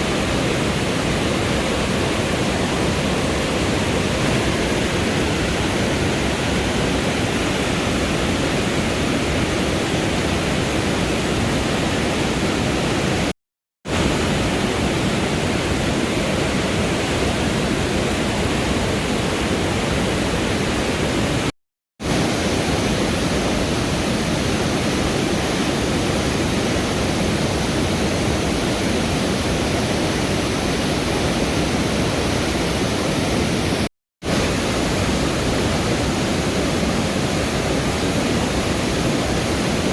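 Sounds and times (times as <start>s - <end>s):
river water rushing: 0.0s - 13.3s, 13.9s - 39.9s.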